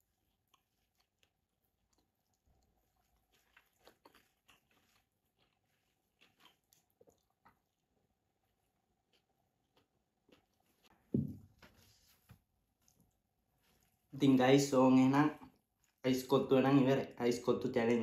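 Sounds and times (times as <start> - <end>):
faint chewing: 0.0 - 14.2, 15.3 - 16.2.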